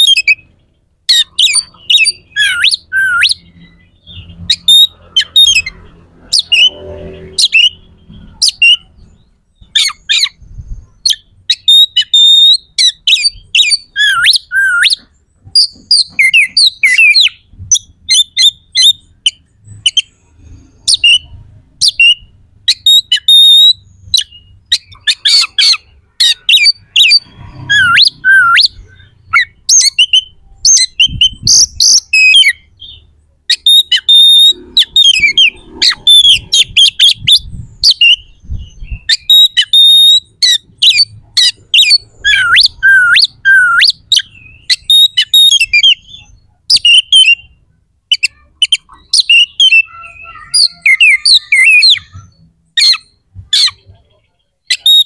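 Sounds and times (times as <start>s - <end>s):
bird singing whistles and chirps: 0.0s - 54.0s, 54.6s - 55.0s.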